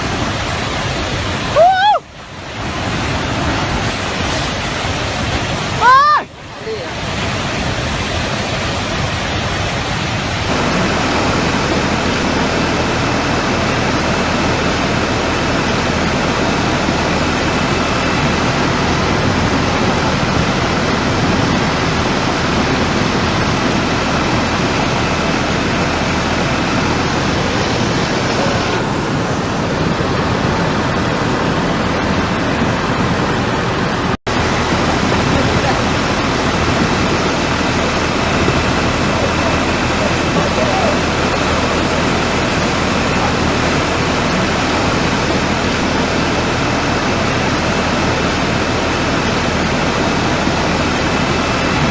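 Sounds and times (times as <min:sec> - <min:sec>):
floodwater rushing: 0:00.0 - 0:51.9.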